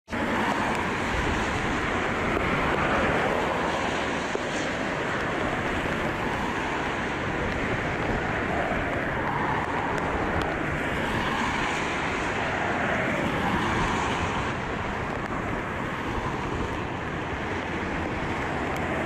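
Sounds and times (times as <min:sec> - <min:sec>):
strong wind buffeting microphone: 0:00.1 - 0:19.0.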